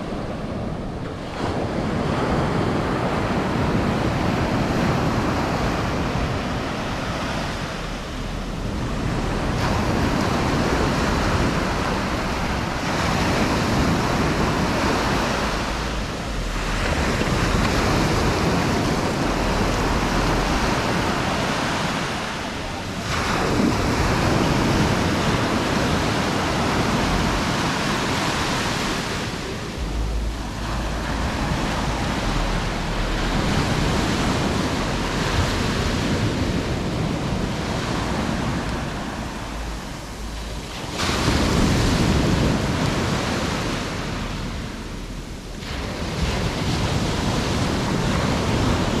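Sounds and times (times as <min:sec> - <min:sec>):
surf breaking on beach: 0:00.0 - 0:49.0
wind rumbling on microphone: 0:00.0 - 0:49.0.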